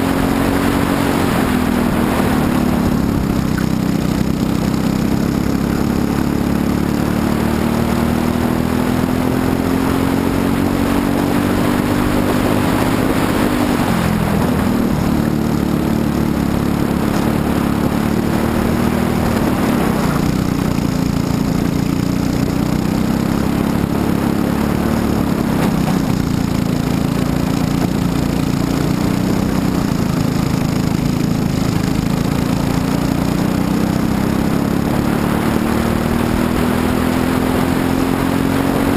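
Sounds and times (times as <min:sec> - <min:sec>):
kart engine running flat out: 0:00.0 - 0:38.9.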